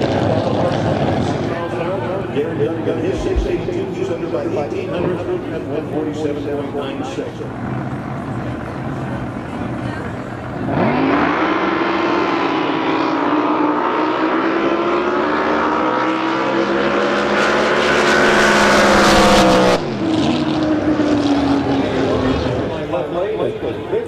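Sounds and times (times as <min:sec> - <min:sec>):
boat engine at full throttle: 0:00.0 - 0:24.0.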